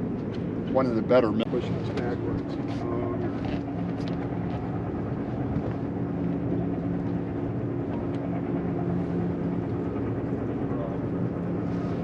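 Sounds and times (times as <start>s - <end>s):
engine droning hum: 0.0s - 12.0s.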